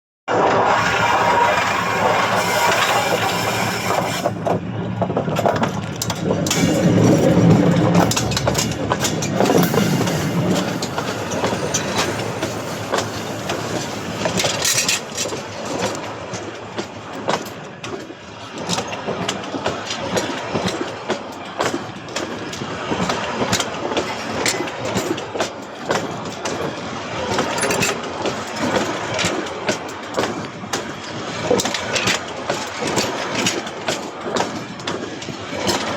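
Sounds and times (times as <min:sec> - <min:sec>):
train rolling rumble: 0:00.3 - 0:35.9
train wheels clicking over points: 0:00.6 - 0:35.9.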